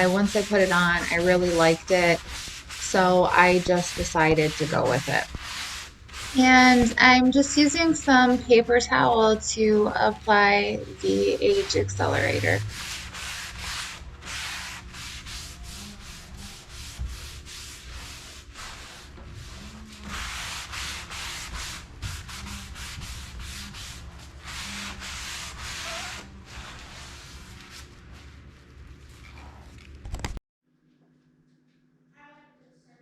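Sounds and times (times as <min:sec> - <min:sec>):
paper towel rubbing wood: 0:00.0 - 0:29.7.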